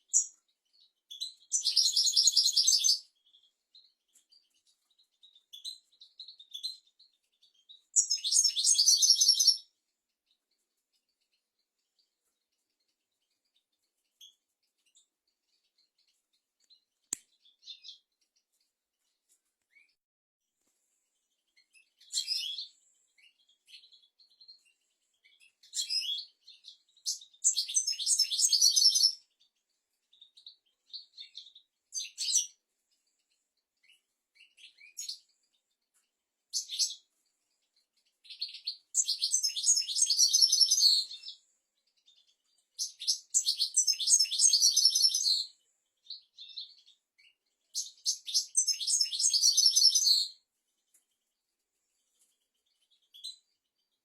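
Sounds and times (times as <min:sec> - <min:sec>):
bird twittering and trilling: 0:00.0 - 0:20.0, 0:21.1 - 0:54.0.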